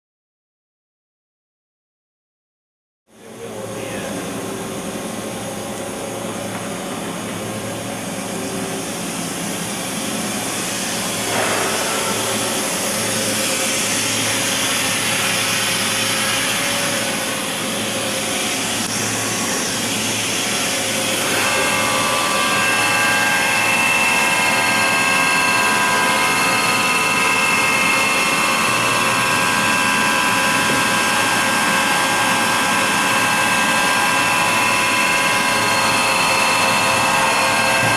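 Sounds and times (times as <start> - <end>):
machining center whirring: 3.1 - 37.9.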